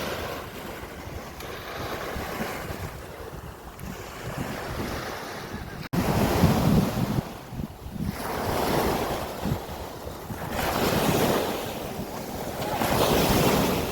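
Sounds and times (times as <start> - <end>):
waves washing onto shore: 0.0 - 13.9
wind buffeting microphone: 0.0 - 13.9.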